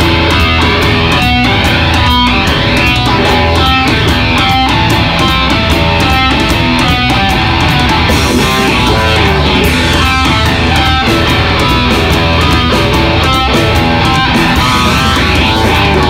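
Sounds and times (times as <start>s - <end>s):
drum kit: 0.0s - 16.0s
electric guitar riffs: 0.0s - 16.0s.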